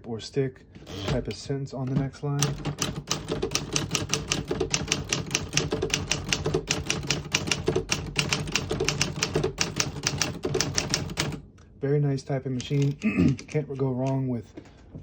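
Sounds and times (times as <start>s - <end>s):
manual typewriter typing: 0.8s - 11.4s, 12.6s - 14.2s.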